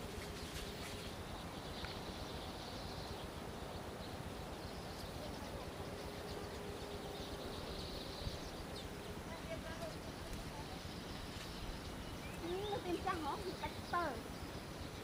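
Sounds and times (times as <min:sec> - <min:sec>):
faint high chirping: 0:00.0 - 0:15.0
faint steady hum: 0:00.0 - 0:15.0.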